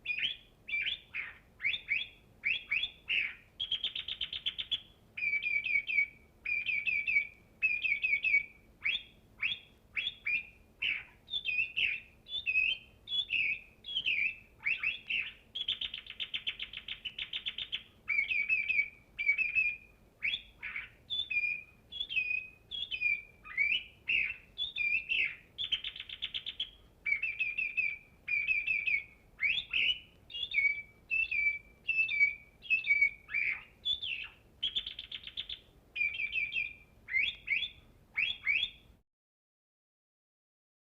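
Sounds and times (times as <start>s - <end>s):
bird singing trills and whistles: 0.0s - 39.0s.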